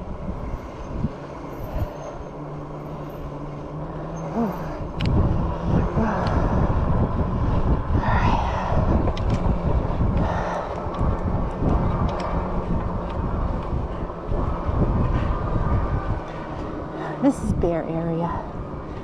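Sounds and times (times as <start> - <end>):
e-bike motor hum: 0.0 - 19.0
wind rumble on microphone: 0.0 - 19.0.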